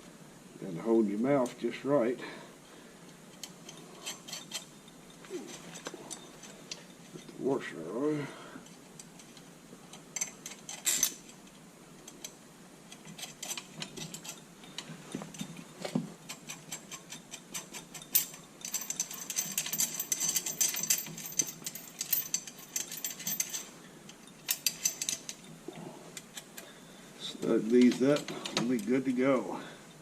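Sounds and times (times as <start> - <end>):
small steel hardware clinking: 3.1 - 7.4, 8.6 - 26.7, 27.4 - 29.2.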